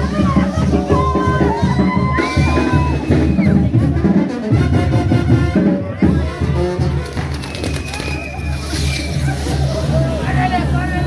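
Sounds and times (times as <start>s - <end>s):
brass band music with trumpets: 0.0s - 11.0s
driving bass drum beat: 0.0s - 11.0s.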